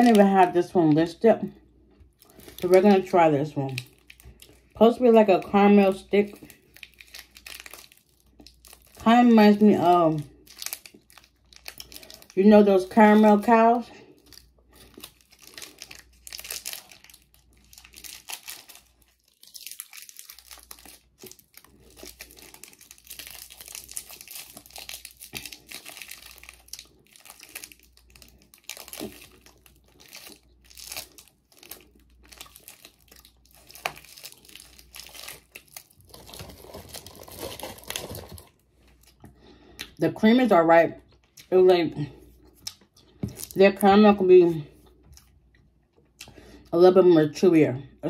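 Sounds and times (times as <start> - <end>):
plastic candy wrapper crinkling: 0.0 - 40.0, 42.4 - 44.6.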